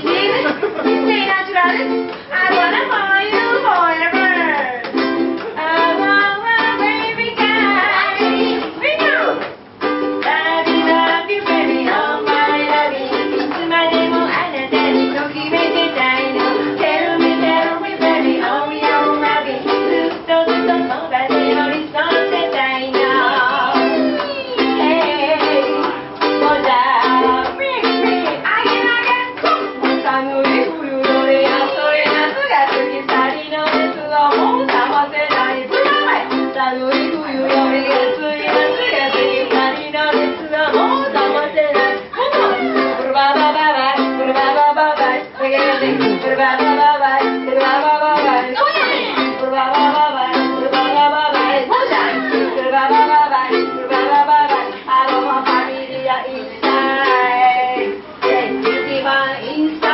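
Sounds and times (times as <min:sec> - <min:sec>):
woman singing into a microphone: 0:00.0 - 0:09.5, 0:10.2 - 0:59.9
ukuleles strummed: 0:00.0 - 0:59.9.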